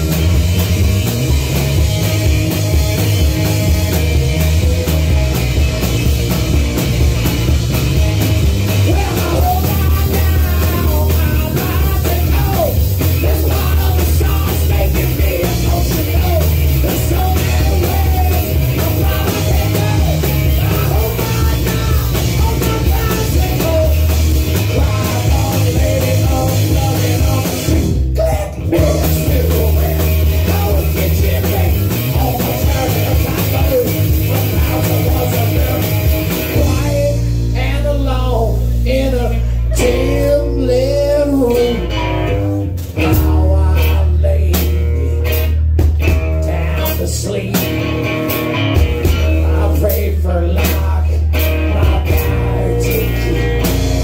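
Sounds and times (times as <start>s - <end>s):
drum kit: 0.0s - 54.0s
electric guitar: 0.0s - 54.0s.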